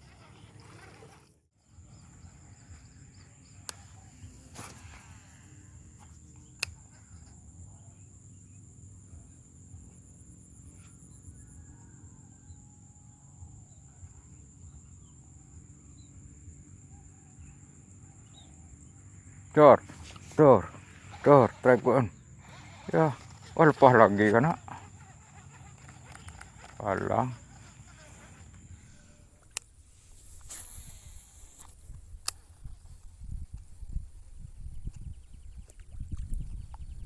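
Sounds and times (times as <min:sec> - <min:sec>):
insects trilling: 0:01.6 - 0:37.0.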